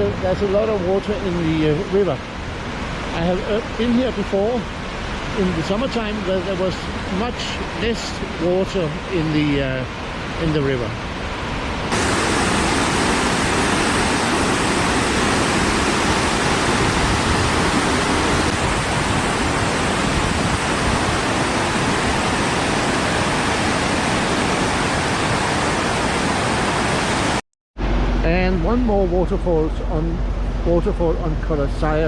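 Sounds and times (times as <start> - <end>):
waterfall rushing: 0.0 - 27.4.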